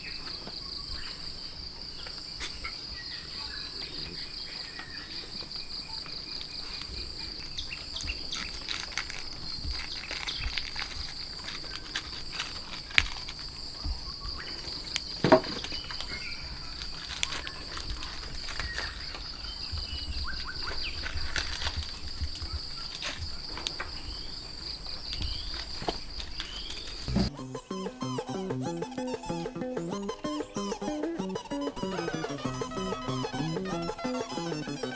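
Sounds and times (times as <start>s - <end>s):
insects trilling: 0.0s - 34.9s.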